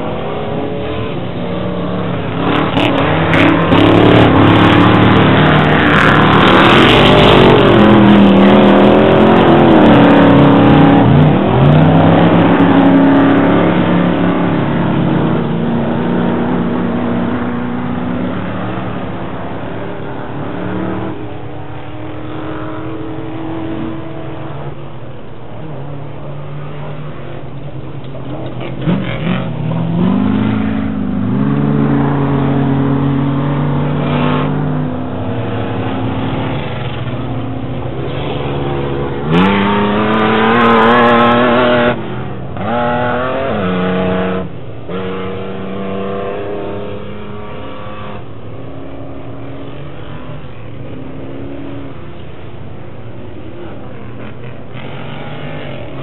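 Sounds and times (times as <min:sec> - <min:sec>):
close engine revving high: 0:00.0 - 0:24.8, 0:28.3 - 0:52.4, 0:53.2 - 0:56.0
off-road engines revving: 0:00.0 - 0:56.0.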